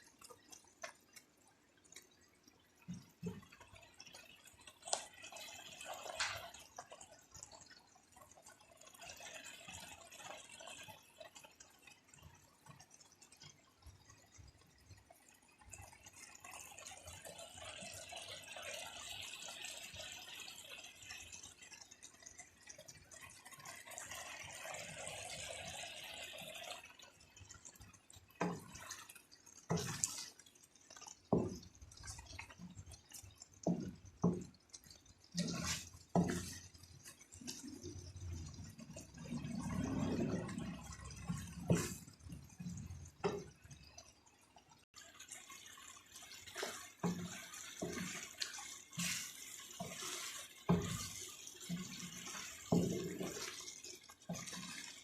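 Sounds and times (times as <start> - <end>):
food bubbling in a pan: 0.0 - 55.0.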